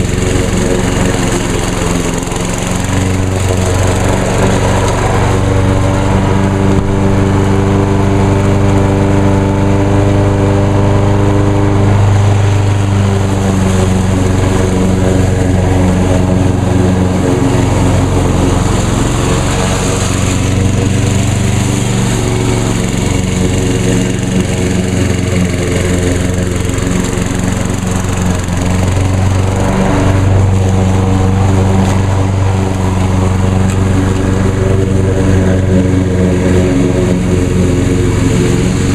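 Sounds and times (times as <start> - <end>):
lawn mower engine cutting grass: 0.0 - 38.9.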